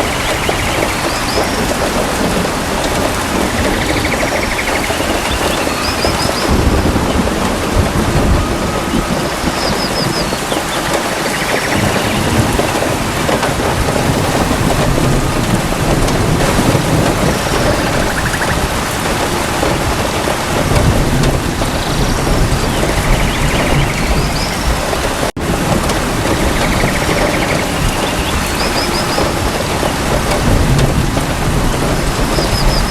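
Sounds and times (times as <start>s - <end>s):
steady rain falling: 0.0s - 32.9s
thunder rumbling: 0.0s - 32.9s.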